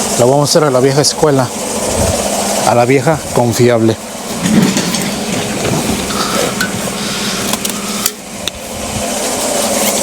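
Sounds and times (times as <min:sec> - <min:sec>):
engine idling with a misfire: 0:00.0 - 0:10.0.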